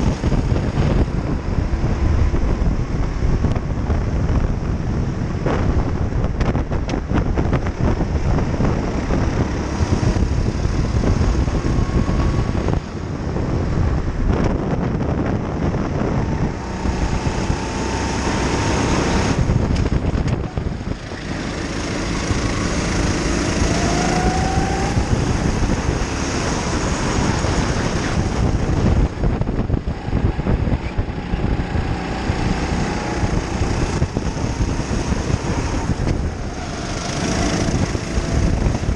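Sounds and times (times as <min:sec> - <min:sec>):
go-kart engine racing: 0:00.0 - 0:38.9
wind rushing noise: 0:00.0 - 0:38.9.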